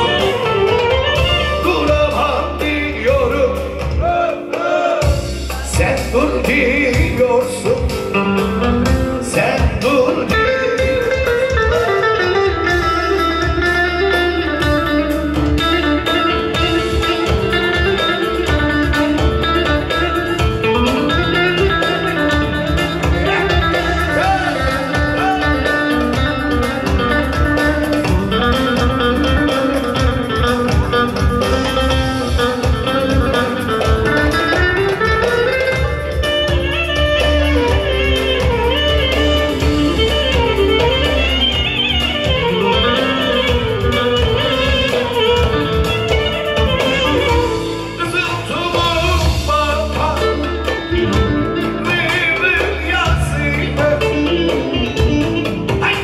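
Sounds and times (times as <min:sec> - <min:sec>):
plucked-string lead melody: 0:00.0 - 0:04.0, 0:05.0 - 0:56.0
steady bass line: 0:00.0 - 0:04.4, 0:05.0 - 0:56.0.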